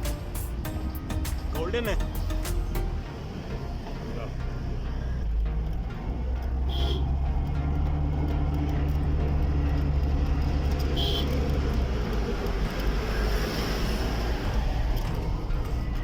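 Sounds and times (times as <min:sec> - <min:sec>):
rushing road noise: 0:00.0 - 0:16.0
vehicle engine humming: 0:00.0 - 0:16.0.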